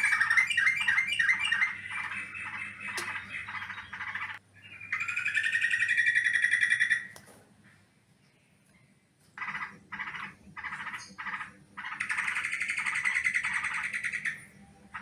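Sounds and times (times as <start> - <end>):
bird harsh chattering: 0.0 - 7.1, 9.4 - 15.0.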